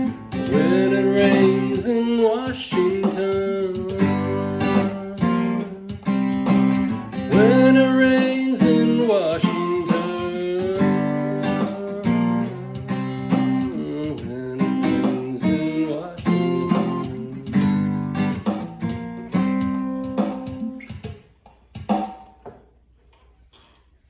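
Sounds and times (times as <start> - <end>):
strummed acoustic guitar: 0.0 - 21.2.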